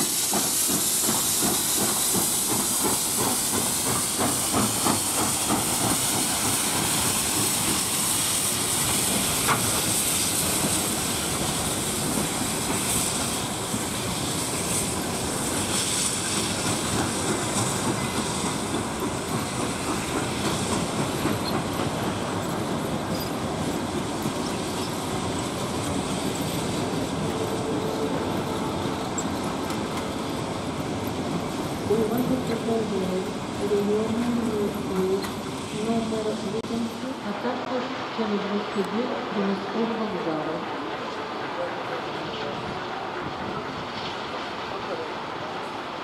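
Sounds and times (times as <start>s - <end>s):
steam hissing: 0.0s - 46.0s
train wheels on rails: 0.0s - 46.0s.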